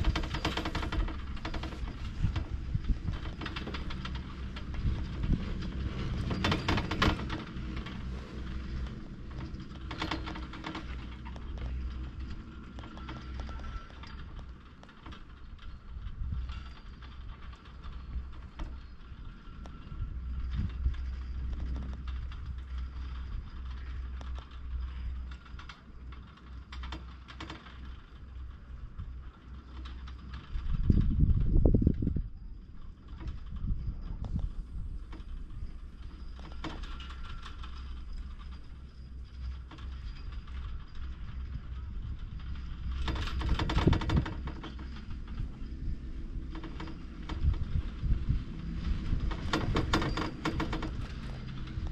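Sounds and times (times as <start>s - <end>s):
chairlift rope clicking and clattering: 0.0s - 51.9s
steady low rumble: 0.0s - 51.9s.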